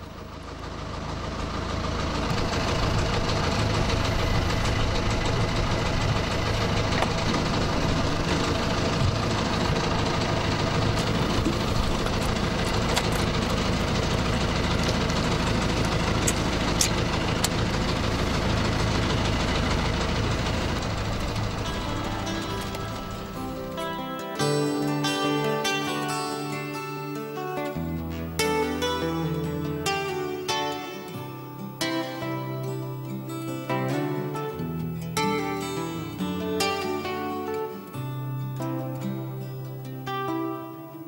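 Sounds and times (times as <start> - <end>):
boat engine idling: 0.0 - 40.3.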